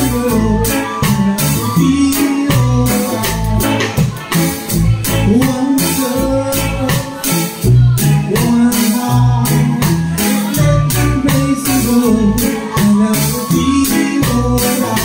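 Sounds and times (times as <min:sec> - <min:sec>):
drums: 0:00.0 - 0:15.0
electric bass: 0:00.0 - 0:15.0
keyboard: 0:00.0 - 0:15.0
man singing: 0:00.0 - 0:15.0.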